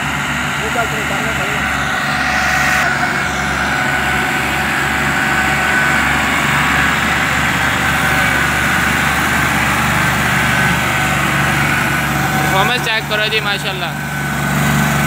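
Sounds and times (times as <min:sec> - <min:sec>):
tractor diesel engines running: 0:00.0 - 0:15.0.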